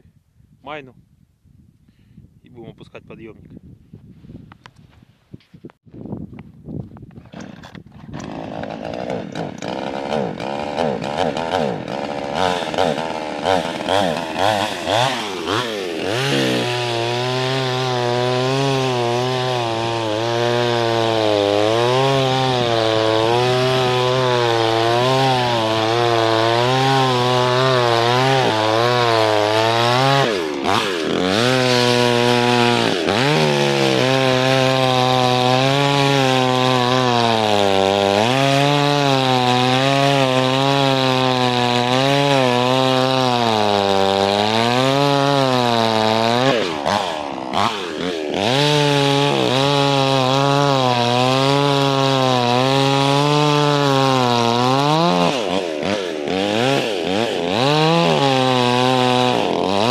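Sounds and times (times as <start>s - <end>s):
chainsaw cutting ice: 7.1s - 59.9s.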